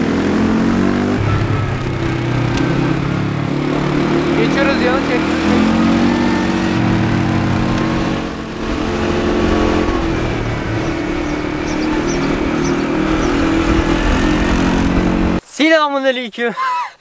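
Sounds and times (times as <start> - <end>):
atv engine running: 0.0 - 15.4.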